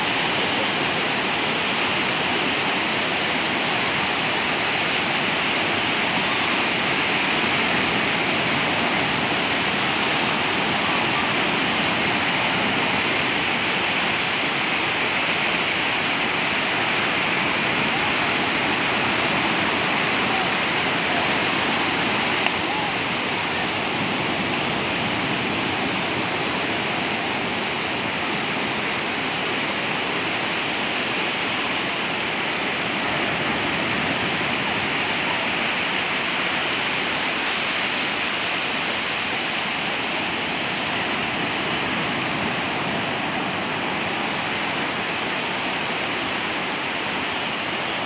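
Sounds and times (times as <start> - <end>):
waves hissing on sandy beach: 0.0 - 48.0.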